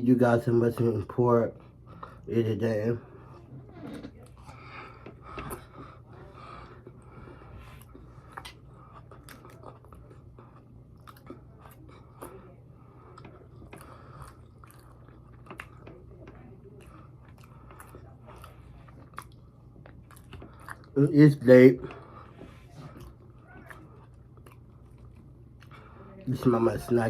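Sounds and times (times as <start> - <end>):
steady low hum: 0.0 - 27.0
person chewing food: 0.7 - 27.0.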